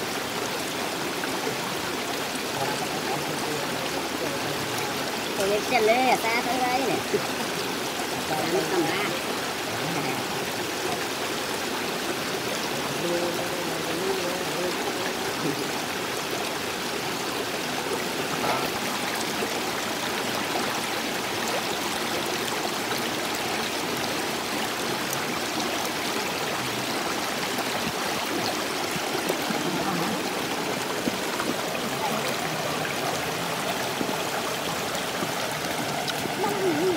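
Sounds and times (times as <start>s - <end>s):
stream running over stones: 0.0s - 36.9s.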